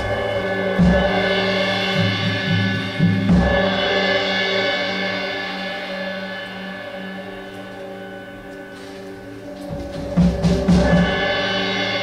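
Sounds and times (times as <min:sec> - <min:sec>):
low percussion strikes: 0:00.0 - 0:12.0
ringing percussion tones: 0:00.0 - 0:12.0.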